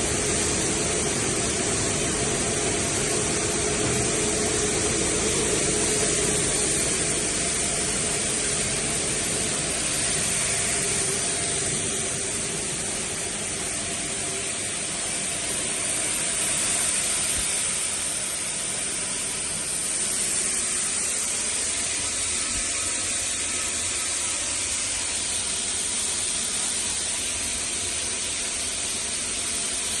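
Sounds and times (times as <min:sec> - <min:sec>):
plastic granulating machine running: 0:00.0 - 0:30.0.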